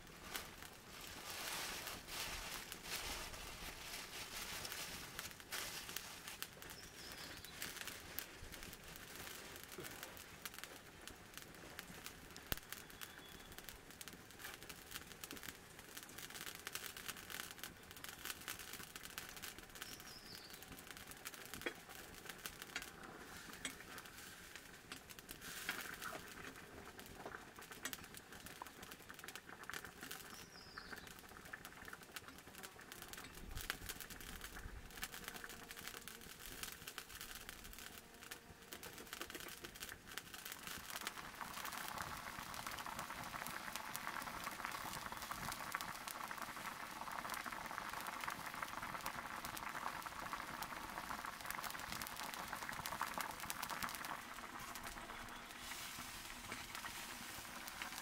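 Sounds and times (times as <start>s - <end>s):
pot boiling hiss: 0.0s - 58.0s
wood fire crackling: 0.0s - 58.0s.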